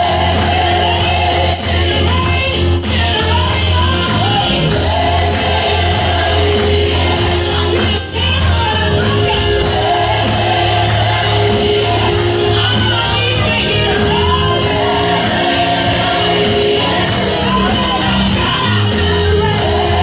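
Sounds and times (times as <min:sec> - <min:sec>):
backing vocals: 0:00.0 - 0:20.0
band with steady bass: 0:00.0 - 0:20.0
lead singer: 0:00.0 - 0:20.0.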